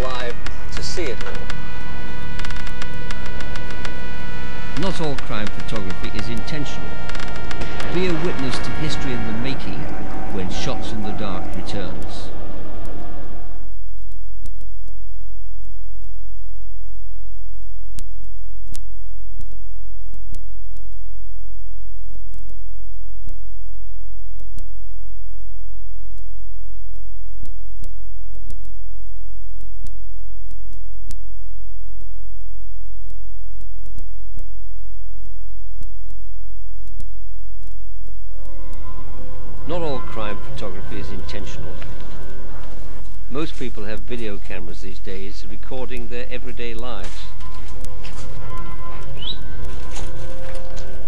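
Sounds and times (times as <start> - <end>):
low electrical mains hum: 0.0 - 51.0.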